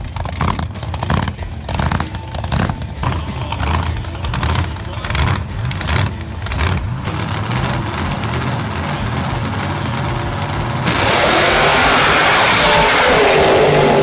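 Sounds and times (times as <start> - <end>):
drag racing car engine: 0.0 - 14.0.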